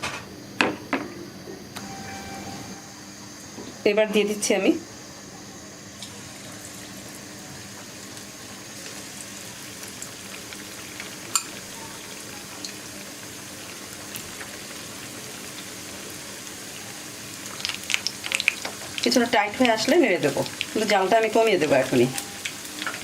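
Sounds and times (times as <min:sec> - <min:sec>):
chicken deep-frying in oil: 0:03.2 - 0:23.0.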